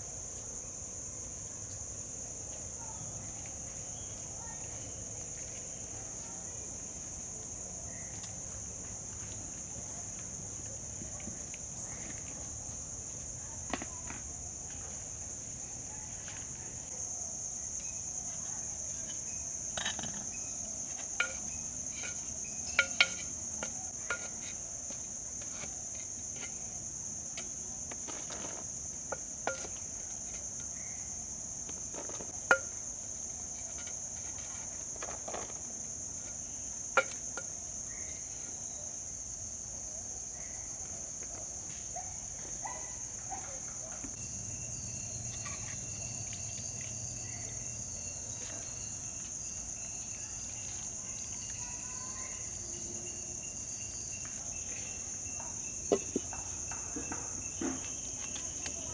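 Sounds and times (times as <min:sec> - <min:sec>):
insect chorus: 0:00.0 - 0:58.9.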